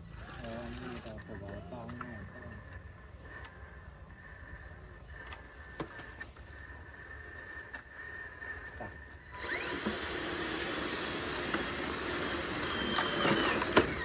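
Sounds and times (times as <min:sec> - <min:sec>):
electric motor and gear whine: 0:00.0 - 0:14.0.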